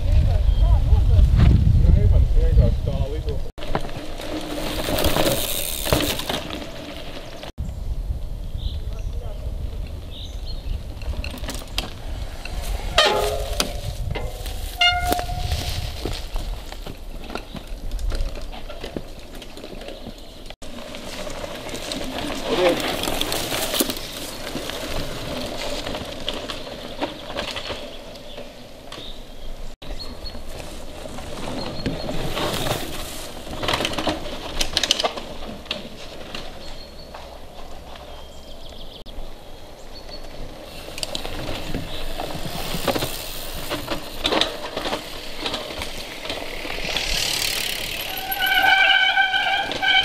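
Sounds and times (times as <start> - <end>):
bikes rattling over dirt trail: 2.0 - 7.5, 8.2 - 50.0
tyres crackling over dry leaves: 3.6 - 7.5, 9.0 - 29.3, 30.0 - 38.4, 40.2 - 50.0.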